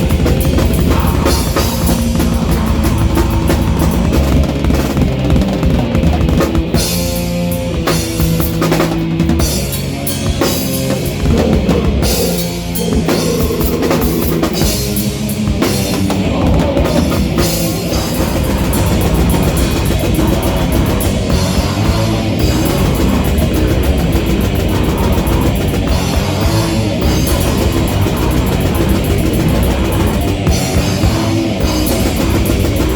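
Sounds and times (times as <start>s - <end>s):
bass drum: 0.0s - 32.9s
distorted guitars: 0.0s - 32.9s
rock band playing: 0.0s - 32.9s.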